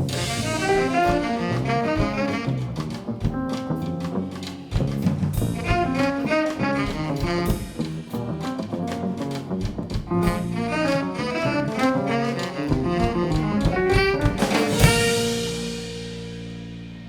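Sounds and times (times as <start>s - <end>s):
jazz band playing: 0.0s - 17.0s.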